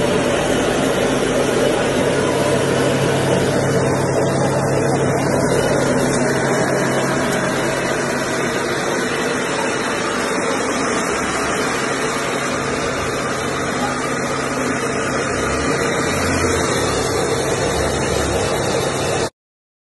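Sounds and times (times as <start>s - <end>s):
rice mill humming: 0.0s - 19.3s.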